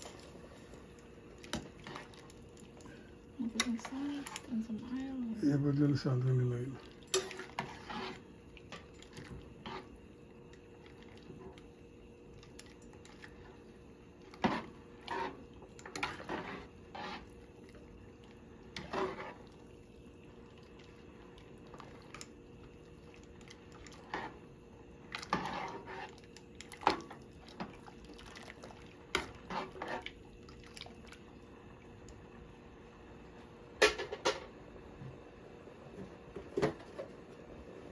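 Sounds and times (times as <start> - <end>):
faint hum: 0.0 - 37.9.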